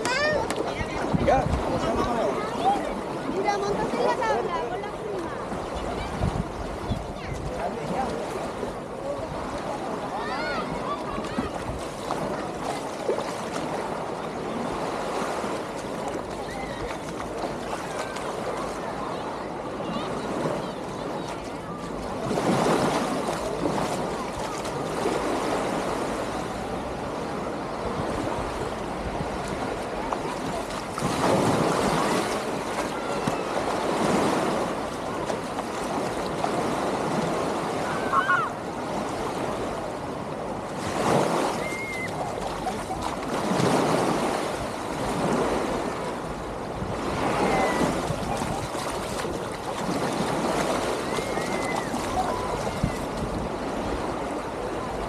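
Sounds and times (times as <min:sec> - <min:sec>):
faint distant voices: 0:00.0 - 0:55.0
small waves on sandy shore: 0:00.0 - 0:55.0.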